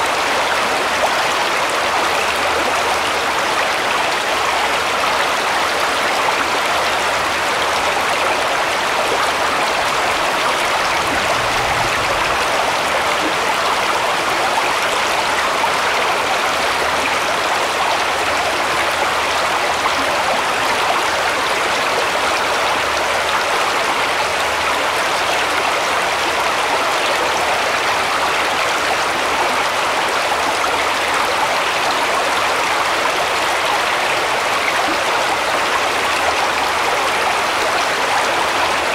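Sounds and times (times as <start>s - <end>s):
brook babbling over stones: 0.0s - 38.9s.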